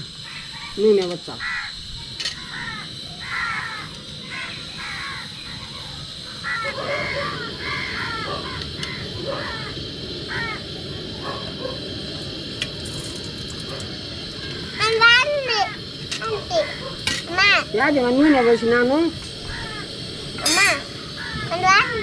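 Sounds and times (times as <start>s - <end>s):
crows cawing: 0.2s - 10.8s, 14.3s - 22.0s.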